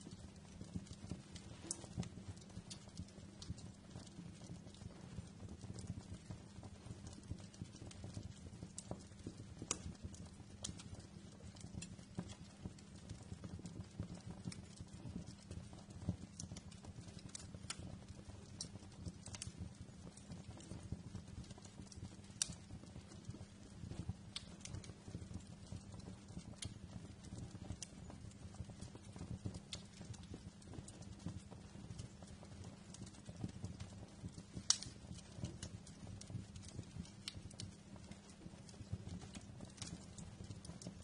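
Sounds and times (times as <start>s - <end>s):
low rumble of flames: 0.0s - 41.0s
wood fire crackling: 0.0s - 41.0s.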